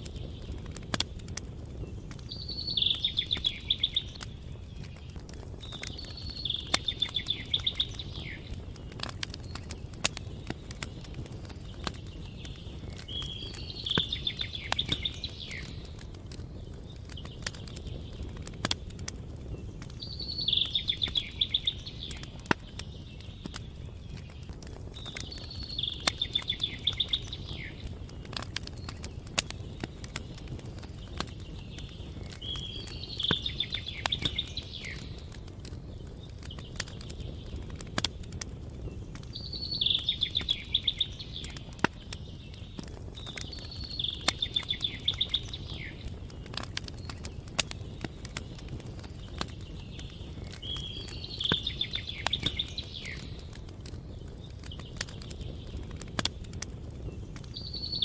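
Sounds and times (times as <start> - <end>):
campfire popping and crackling: 0.0 - 58.0.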